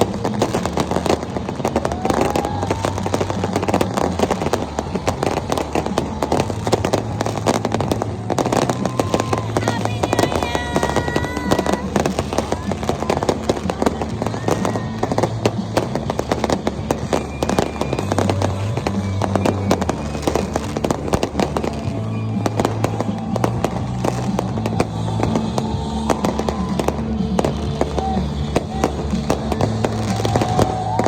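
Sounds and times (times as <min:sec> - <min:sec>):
fireworks bangs and crackles: 0:00.0 - 0:31.0
music with deep bass: 0:00.0 - 0:31.0.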